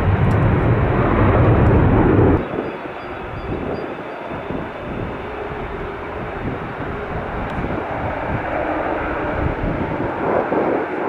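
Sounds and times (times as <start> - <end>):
jet airliner engines running: 0.0 - 11.0.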